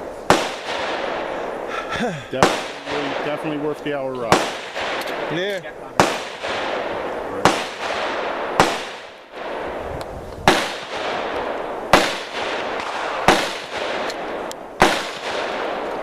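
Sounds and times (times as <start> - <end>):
gunshots: 0.2 - 16.0.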